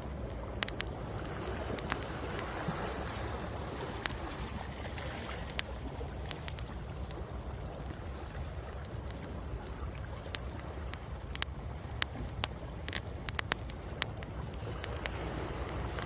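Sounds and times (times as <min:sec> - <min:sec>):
bonfire crackling and popping: 0:00.0 - 0:16.0
sea waves on the shore: 0:00.0 - 0:16.0.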